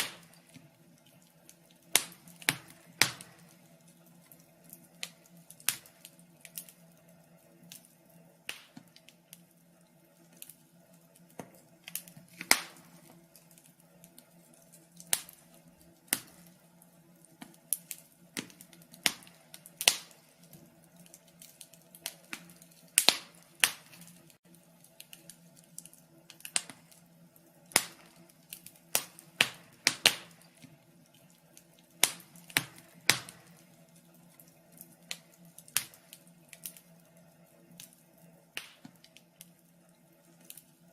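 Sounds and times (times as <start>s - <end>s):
sharp pops and snaps: 0.0s - 6.9s, 8.5s - 9.5s, 11.2s - 16.6s, 17.2s - 27.1s, 27.7s - 33.7s, 34.3s - 37.0s, 38.6s - 39.6s
wood fire crackling: 0.0s - 40.9s.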